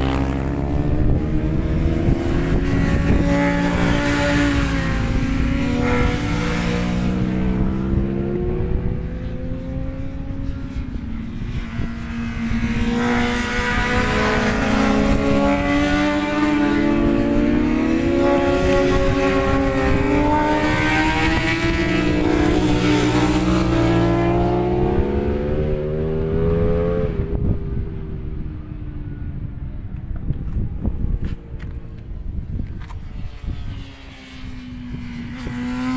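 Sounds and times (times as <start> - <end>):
racing motorcycles passing: 0.0 - 35.9
wind buffeting microphone: 0.0 - 35.9.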